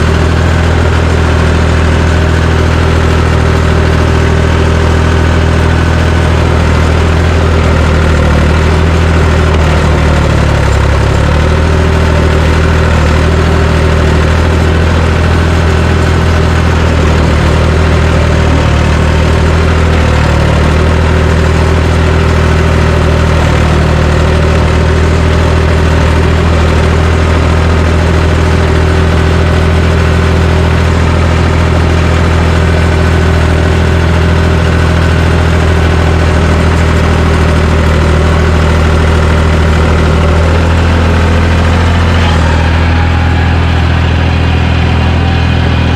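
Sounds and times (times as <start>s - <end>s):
bulldozer engine running loud: 0.0s - 45.9s.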